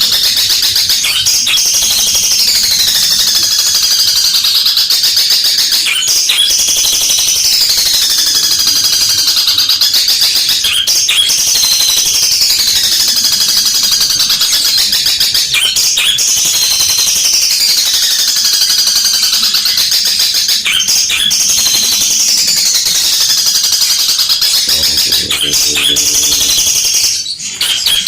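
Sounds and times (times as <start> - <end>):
bird chattering song: 0.0 - 28.0.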